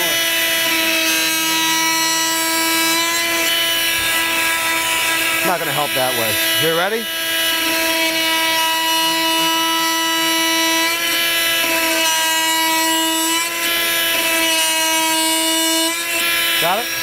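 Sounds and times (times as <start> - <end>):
oscillating multi-tool cutting wood: 0.0 - 17.0.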